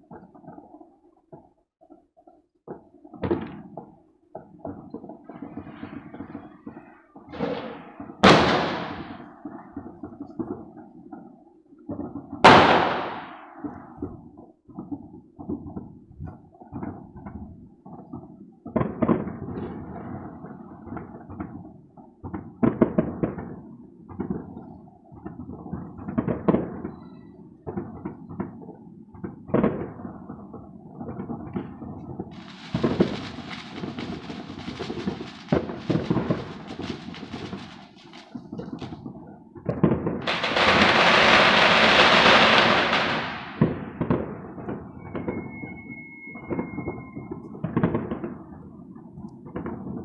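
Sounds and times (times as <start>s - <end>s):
fireworks crackling roar: 0.0s - 50.0s
fireworks echoing bangs: 2.6s - 50.0s.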